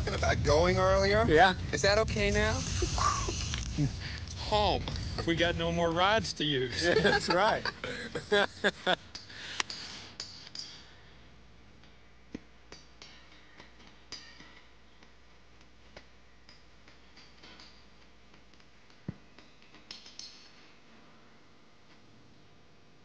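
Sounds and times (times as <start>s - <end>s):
low hum: 0.0s - 18.9s
faint background hiss: 0.0s - 23.0s.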